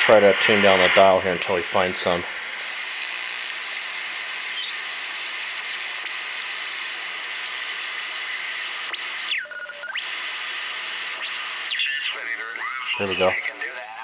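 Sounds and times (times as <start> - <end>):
shortwave radio hiss: 0.0 - 14.0.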